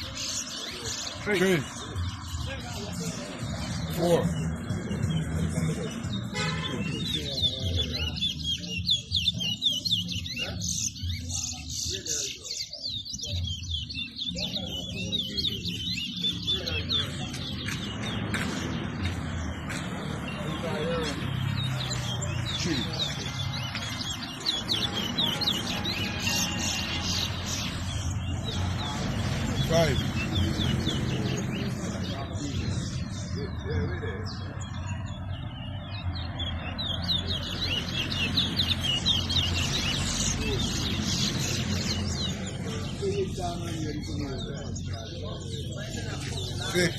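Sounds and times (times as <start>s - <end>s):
finch twittering song: 0.0s - 46.9s
low background murmur: 0.0s - 46.9s.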